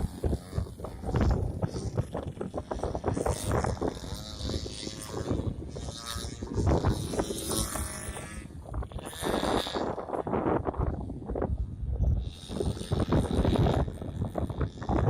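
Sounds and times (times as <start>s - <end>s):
small engine running: 0.0s - 15.0s
wind buffeting microphone: 0.0s - 15.0s.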